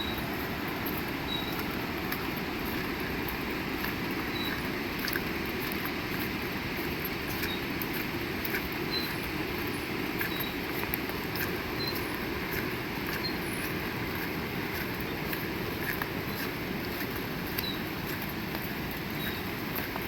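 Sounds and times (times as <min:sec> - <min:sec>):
raindrops tapping close by: 0:00.0 - 0:20.0.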